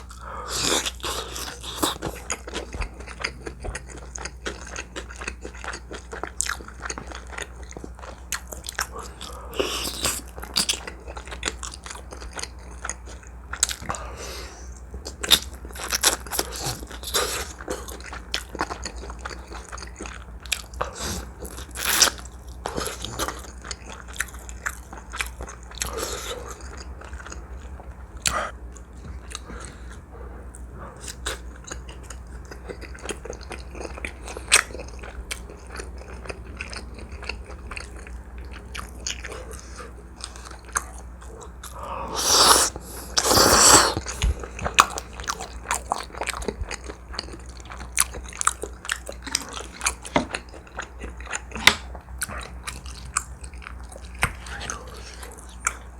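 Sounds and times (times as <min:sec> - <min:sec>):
low steady hum: 0:00.0 - 0:55.9
person chewing food: 0:00.0 - 0:55.9.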